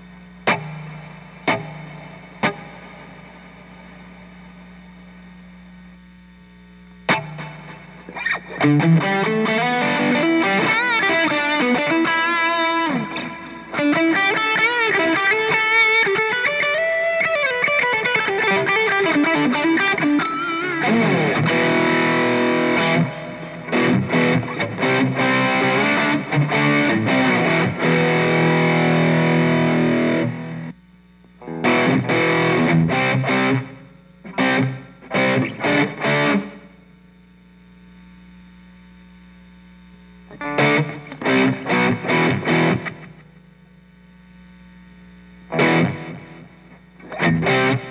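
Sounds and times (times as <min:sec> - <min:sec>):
distorted electric guitar: 0:00.0 - 0:47.9
faint amp hum: 0:00.0 - 0:47.9.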